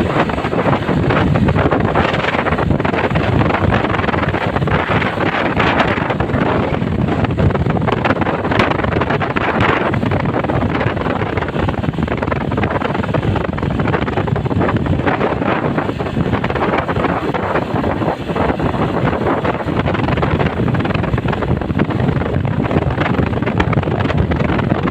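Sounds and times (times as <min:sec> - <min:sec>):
vehicle engine and road noise: 0:00.0 - 0:24.9
wind buffeting microphone: 0:00.0 - 0:24.9.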